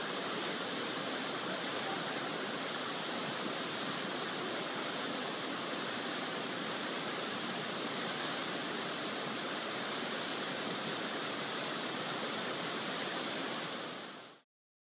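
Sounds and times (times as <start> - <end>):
waterfall rushing: 0.0 - 14.4.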